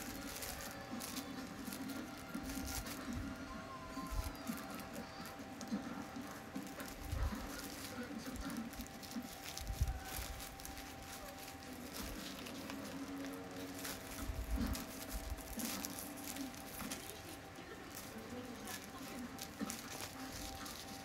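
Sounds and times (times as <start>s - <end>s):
packaging rustling and scratching: 0.0s - 21.0s.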